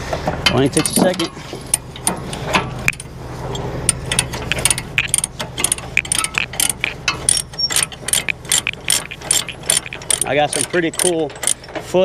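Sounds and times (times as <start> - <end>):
diesel engine droning: 0.0 - 12.0
excavator tracks clicking and clanking: 0.0 - 12.0.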